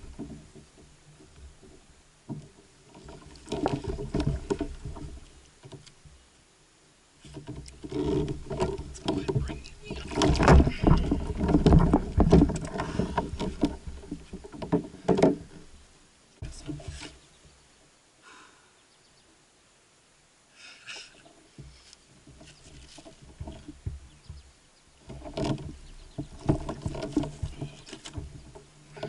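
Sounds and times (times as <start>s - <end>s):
knocks and scrapes against kayak hull: 0.0s - 6.2s, 7.2s - 17.6s, 20.9s - 29.0s.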